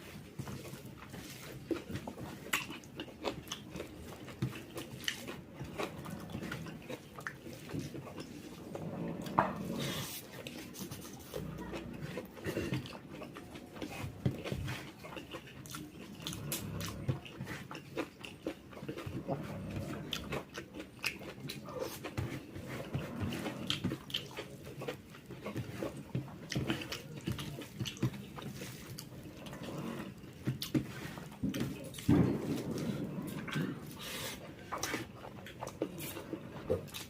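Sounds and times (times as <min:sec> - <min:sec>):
chewing: 0:00.0 - 0:37.0.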